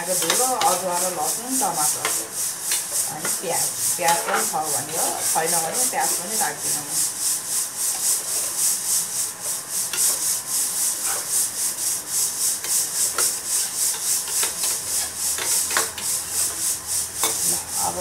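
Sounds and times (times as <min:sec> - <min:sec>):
spatula scraping a metal pan: 0:00.0 - 0:18.0.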